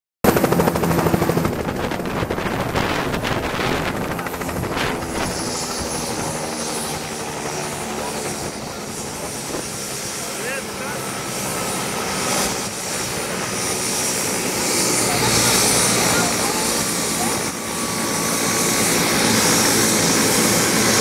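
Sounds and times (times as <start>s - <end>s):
helicopter rotor blade beat: 0.2s - 21.0s
high turbine whine: 0.3s - 21.0s.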